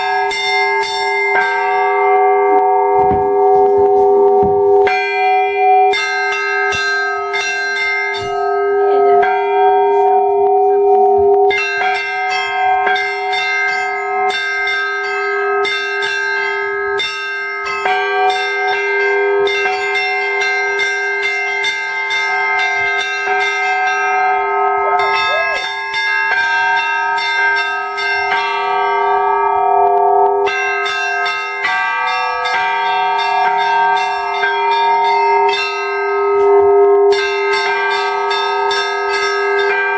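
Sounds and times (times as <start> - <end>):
large bells ringing: 0.0 - 39.9.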